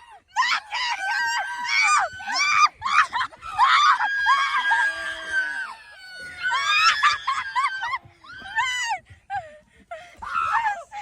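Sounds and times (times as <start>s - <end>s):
people screaming: 0.0s - 9.0s, 10.2s - 11.0s.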